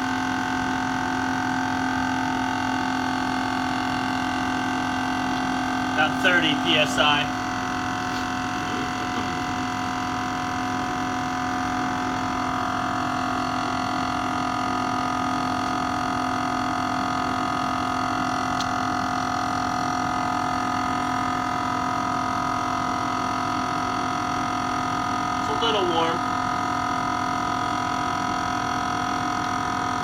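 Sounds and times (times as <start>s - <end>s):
air compressor humming: 0.0s - 30.0s.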